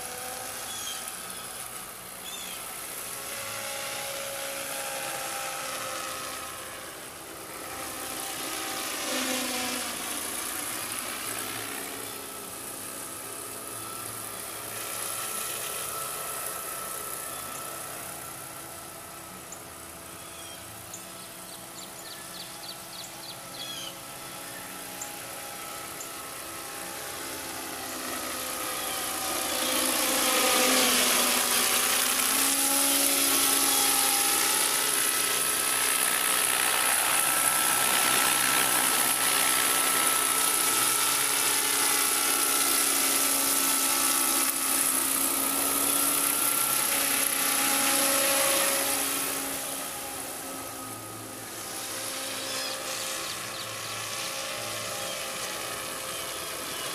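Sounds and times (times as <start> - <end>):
rc helicopter motor whine: 0.0 - 56.9.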